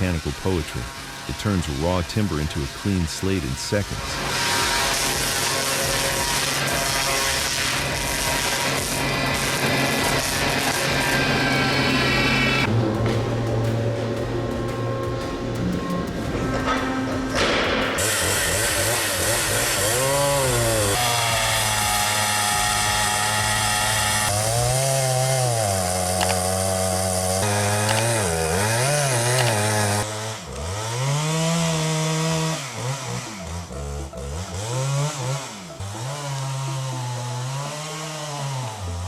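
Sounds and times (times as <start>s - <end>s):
chainsaw engine revving: 0.0s - 39.0s.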